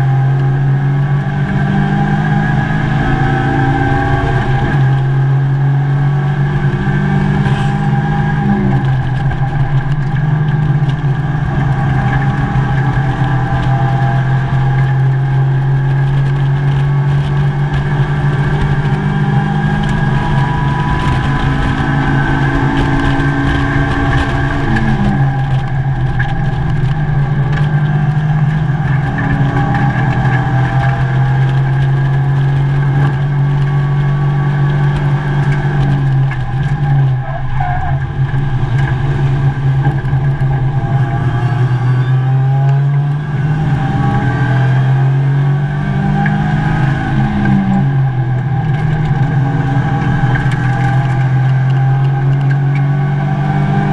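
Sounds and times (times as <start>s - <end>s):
race car engine running hard: 0.0s - 53.9s.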